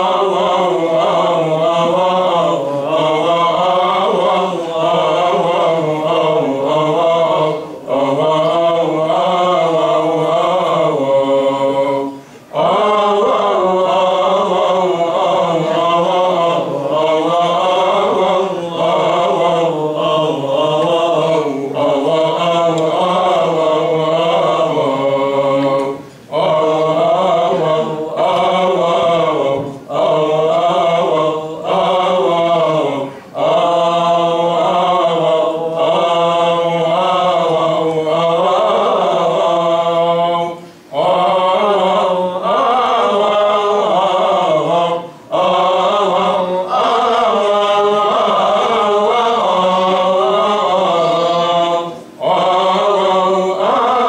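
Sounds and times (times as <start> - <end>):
person chanting liturgically: 0.0 - 54.0.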